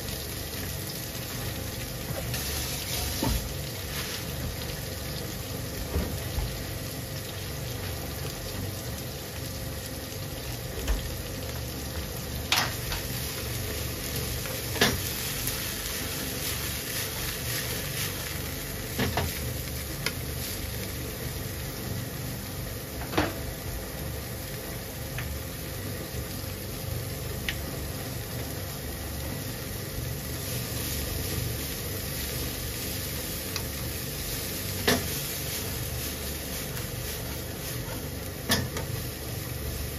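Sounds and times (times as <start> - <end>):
bean sprouts sizzling in oil: 0.0 - 39.9.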